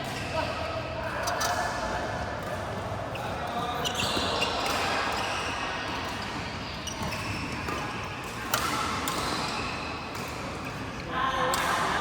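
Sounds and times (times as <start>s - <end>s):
rackets hitting shuttlecock: 0.0s - 12.0s.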